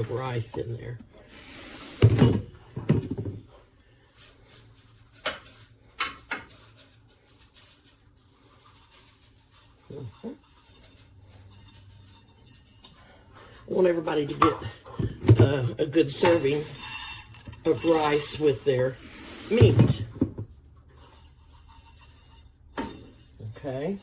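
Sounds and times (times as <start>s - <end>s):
utensils and dish clinking: 0.0s - 3.4s, 4.0s - 24.0s.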